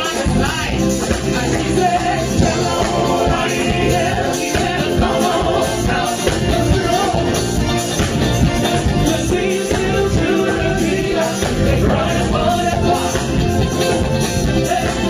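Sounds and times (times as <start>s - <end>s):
band playing: 0.0s - 15.0s.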